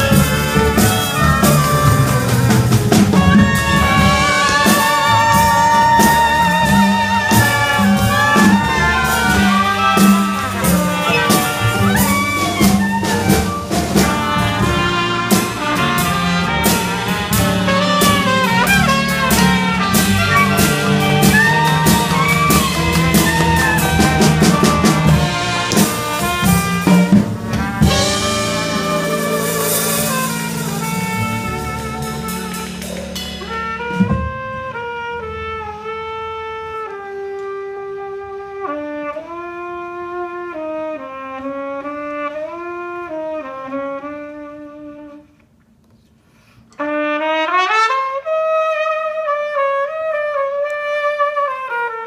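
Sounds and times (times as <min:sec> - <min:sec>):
solo trumpet: 0:00.0 - 0:45.5, 0:46.7 - 0:52.0
jazz band playing: 0:00.0 - 0:45.7, 0:46.7 - 0:52.0.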